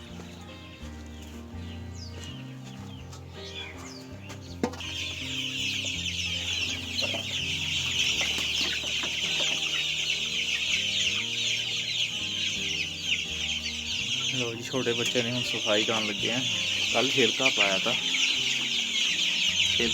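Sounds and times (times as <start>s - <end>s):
chicks peeping: 0.0s - 19.9s.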